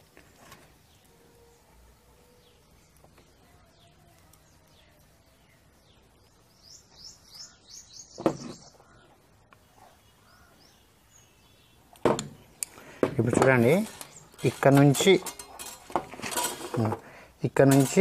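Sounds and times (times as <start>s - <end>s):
bird chirping: 0.8s - 15.9s.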